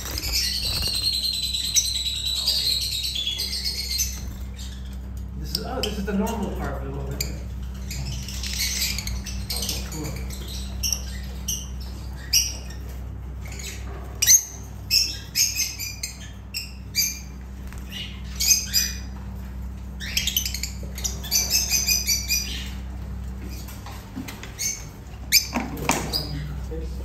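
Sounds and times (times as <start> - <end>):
lovebirds chirping and squawking: 0.0 - 27.0
steady low hum: 0.0 - 27.0.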